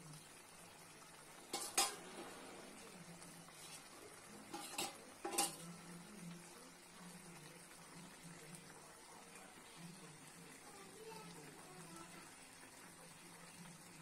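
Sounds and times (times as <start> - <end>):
curry simmering with bubbling hiss: 0.0 - 14.0.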